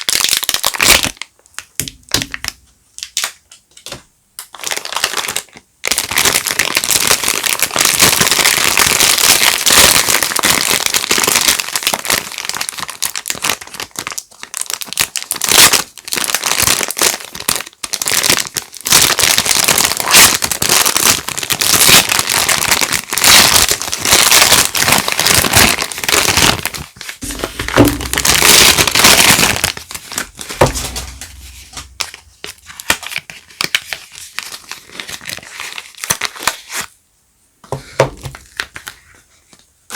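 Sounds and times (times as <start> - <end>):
wrapping crinkling: 0.0 - 3.6, 4.4 - 36.9, 38.2 - 39.6.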